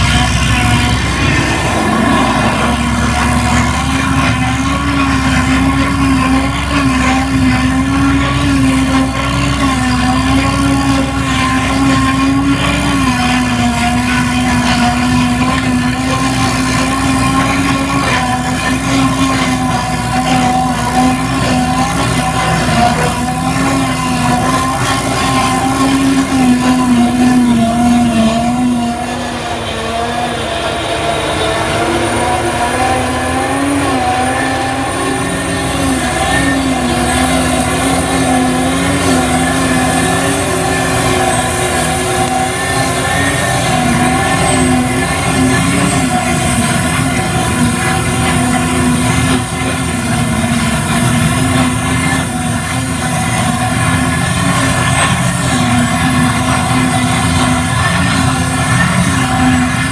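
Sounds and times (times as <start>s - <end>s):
forage harvester droning: 0.0s - 59.9s.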